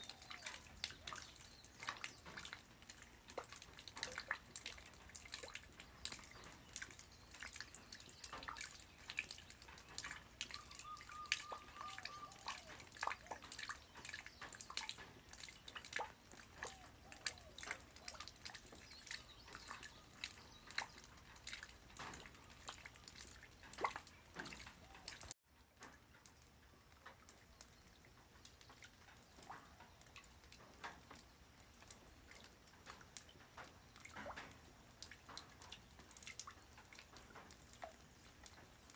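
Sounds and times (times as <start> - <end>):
light rain dripping: 0.0 - 38.9.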